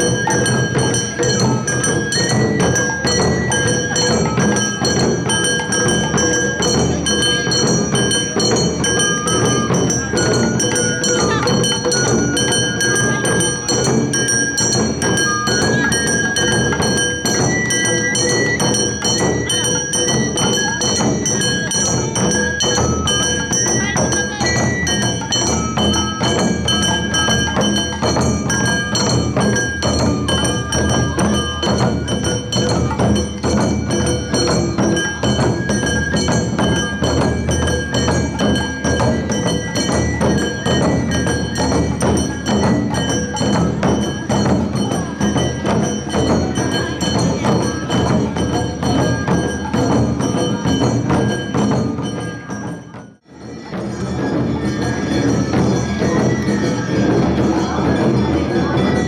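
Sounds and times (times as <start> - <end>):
drums beating a rhythm: 0.0 - 59.0.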